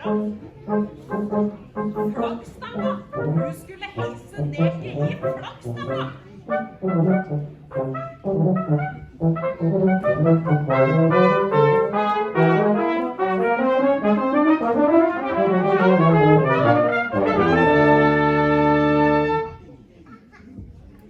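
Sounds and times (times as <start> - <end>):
brass quartet playing: 0.0 - 19.6.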